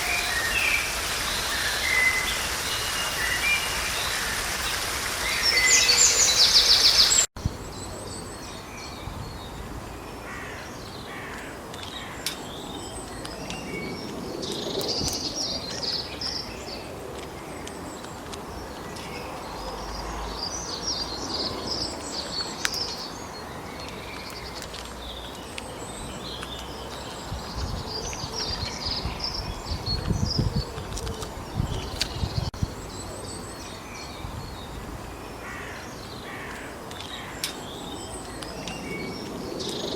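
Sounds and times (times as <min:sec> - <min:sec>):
birds singing and chirping: 0:00.0 - 0:39.9
steady outdoor hiss: 0:00.0 - 0:39.9.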